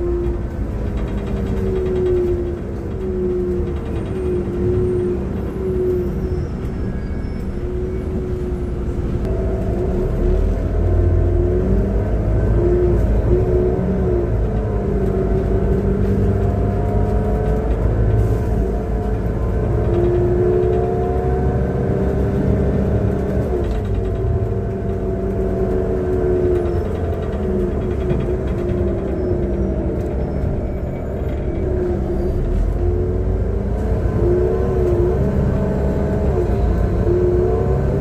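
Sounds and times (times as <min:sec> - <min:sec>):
bus engine rumble: 0:00.0 - 0:38.0
drivetrain whining: 0:00.0 - 0:38.0.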